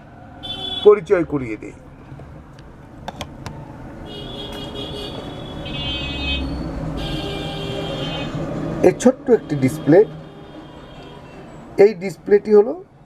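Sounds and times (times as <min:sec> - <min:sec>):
motor vehicle passing: 0:01.1 - 0:11.8.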